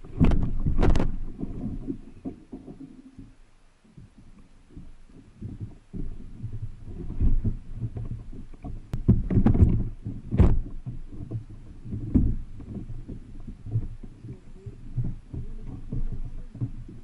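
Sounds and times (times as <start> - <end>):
thumps on plastic kayak hull: 0.0 - 3.3, 5.4 - 17.0.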